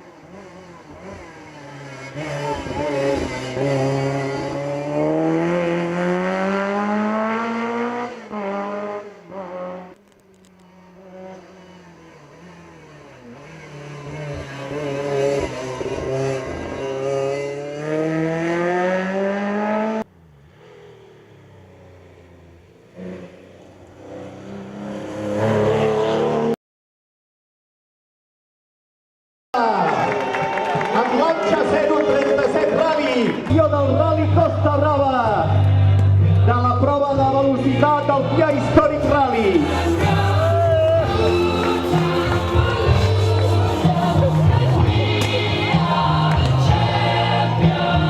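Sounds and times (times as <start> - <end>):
rally car engines accelerating: 0.0 - 26.6, 29.6 - 48.0.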